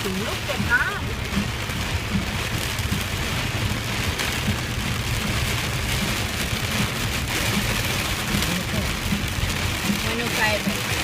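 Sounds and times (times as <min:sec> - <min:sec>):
heavy rain: 0:00.0 - 0:11.0
low rumble: 0:00.0 - 0:11.0.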